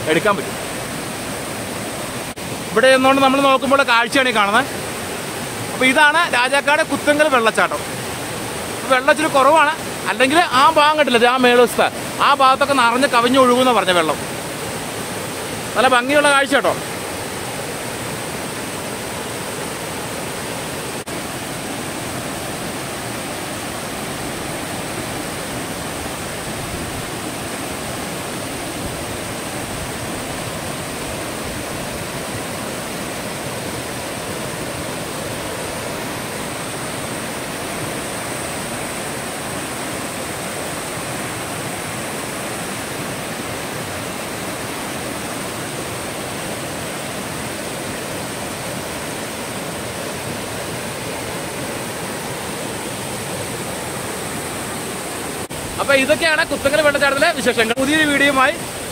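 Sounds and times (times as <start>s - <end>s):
waterfall rushing over rocks: 0.0s - 58.9s.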